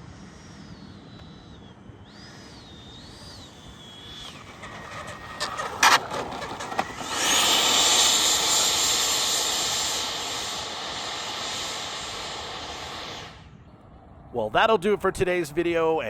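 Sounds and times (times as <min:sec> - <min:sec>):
electric fan whine: 0:00.0 - 0:16.0.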